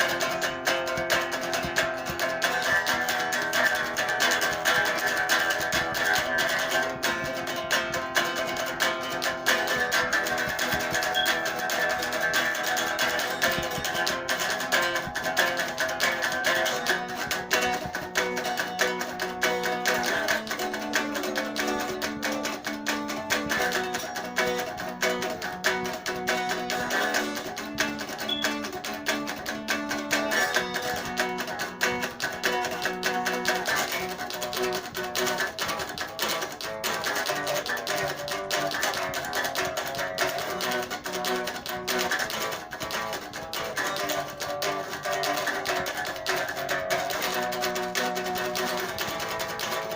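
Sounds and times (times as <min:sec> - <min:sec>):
guitar instrumental: 0:00.0 - 0:49.9.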